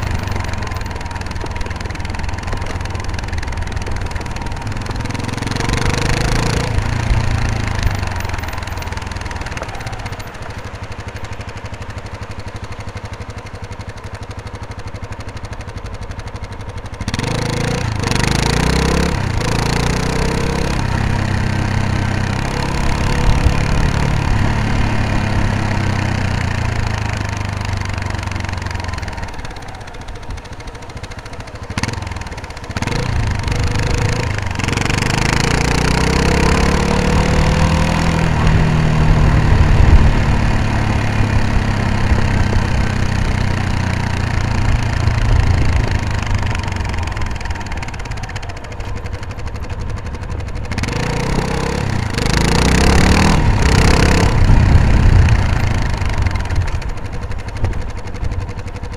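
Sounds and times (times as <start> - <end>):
motorcycle engine accelerating: 0.0 - 58.9
wind and road noise: 0.0 - 58.9.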